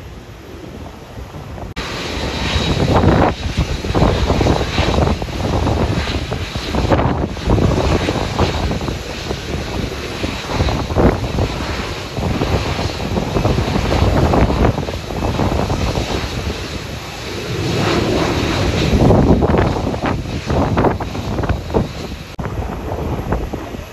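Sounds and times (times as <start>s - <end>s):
jet engine noise: 0.0s - 23.9s
wind buffeting microphone: 0.0s - 23.9s.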